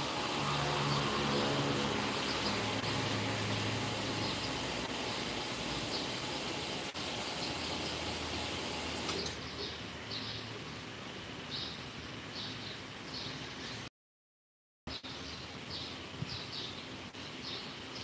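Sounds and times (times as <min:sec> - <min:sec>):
small birds chirping: 0:00.4 - 0:06.6, 0:07.2 - 0:13.9, 0:14.9 - 0:18.0.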